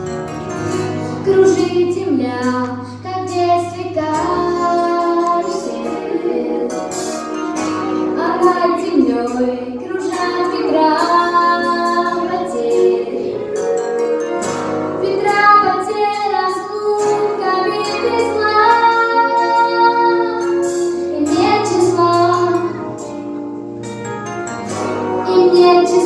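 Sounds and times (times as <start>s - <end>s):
instrumental backing: 0.0s - 26.0s.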